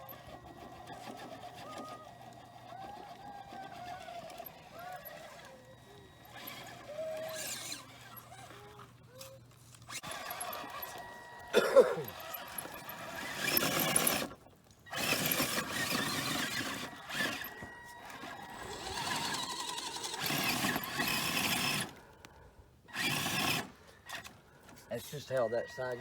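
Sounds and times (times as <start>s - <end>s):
electric motor and gears whining: 0.0s - 26.0s
tyres on loose dirt: 0.0s - 26.0s.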